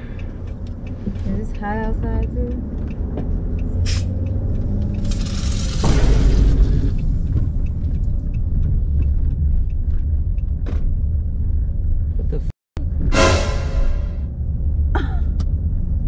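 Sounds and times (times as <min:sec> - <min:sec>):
car engine rumble: 0:00.0 - 0:13.1.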